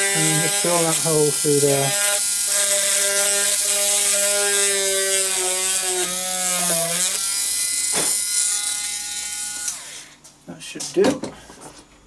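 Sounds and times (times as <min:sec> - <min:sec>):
small drill whining: 0:00.0 - 0:10.2.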